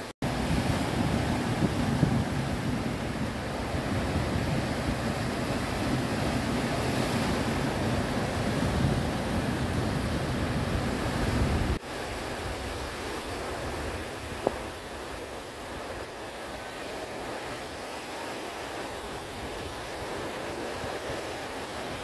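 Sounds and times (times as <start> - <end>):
surf breaking over rocks: 0.2 - 22.0
wind rumbling on microphone: 0.2 - 22.0.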